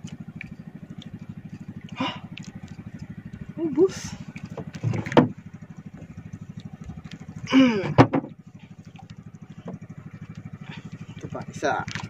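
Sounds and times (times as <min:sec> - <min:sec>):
boat engine puttering: 0:00.0 - 0:12.0.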